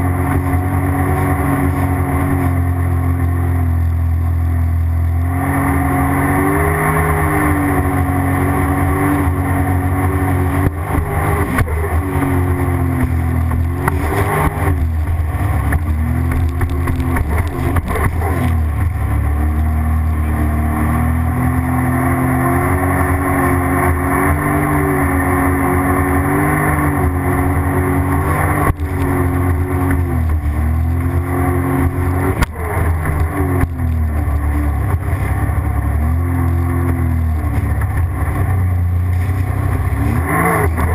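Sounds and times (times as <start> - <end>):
jet ski engine revving: 0.0 - 40.9.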